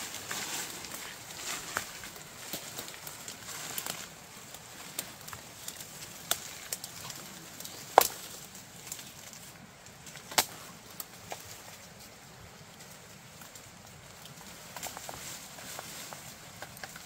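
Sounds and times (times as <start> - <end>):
dry leaves rustling and crackling: 0.0 - 17.0
leaves snapping: 0.0 - 17.0.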